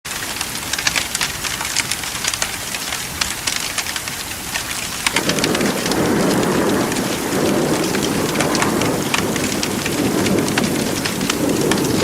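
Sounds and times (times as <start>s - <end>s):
fire crackling: 0.1s - 12.0s
steady rain hissing: 0.1s - 12.0s.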